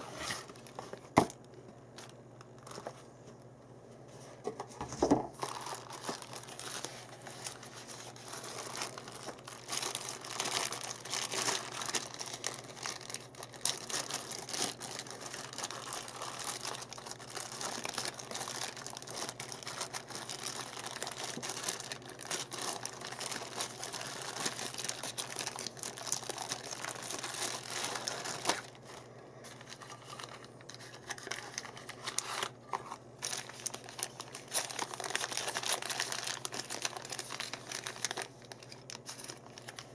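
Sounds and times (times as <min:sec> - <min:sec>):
packaging crinkling and rustling: 0:00.0 - 0:03.5, 0:04.4 - 0:39.9.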